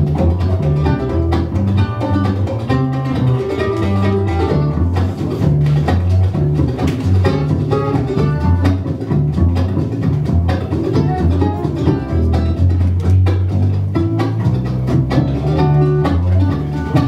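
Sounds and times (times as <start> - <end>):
acoustic guitar: 0.0 - 17.0
banjo picking: 0.0 - 17.0
mandolin: 0.0 - 17.0
plucked upright bass: 0.0 - 17.0.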